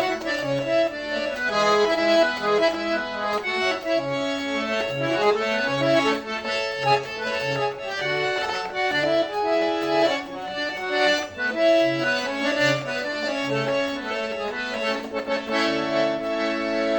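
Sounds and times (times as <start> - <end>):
accordion playing a tune: 0.0 - 16.9.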